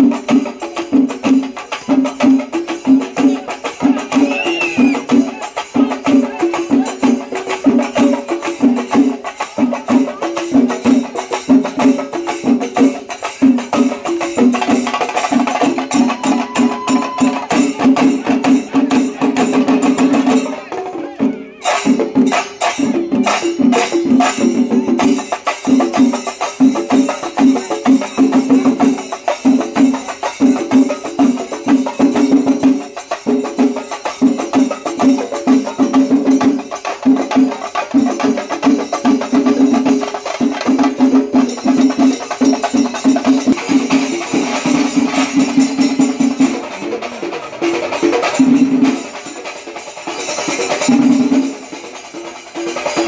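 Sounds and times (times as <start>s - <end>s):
drums beaten fast: 0.0s - 53.0s
jingling cymbals: 0.0s - 53.0s.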